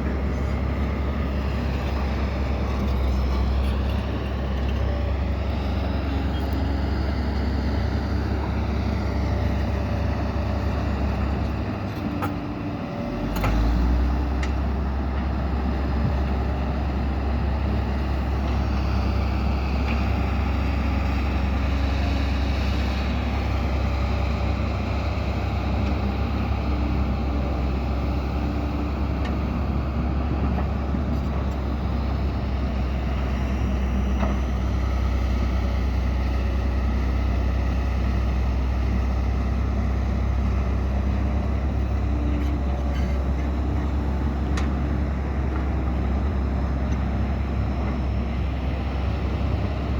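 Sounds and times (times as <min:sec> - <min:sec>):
heavy machinery diesel engines rumbling: 0:00.0 - 0:49.9.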